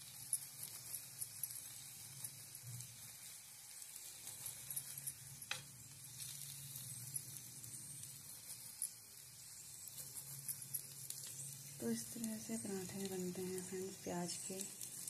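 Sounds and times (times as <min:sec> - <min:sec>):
flatbread sizzling in fat: 0:00.0 - 0:15.0
steel spoon rubbing on pan: 0:00.0 - 0:15.0.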